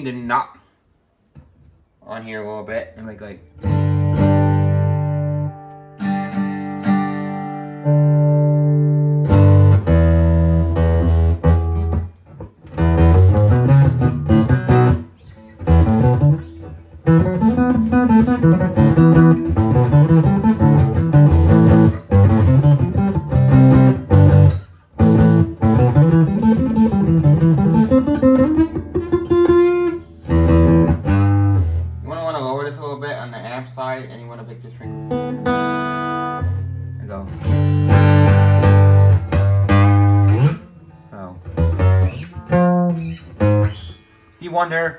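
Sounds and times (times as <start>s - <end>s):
amplified acoustic-electric guitar: 3.4s - 44.7s.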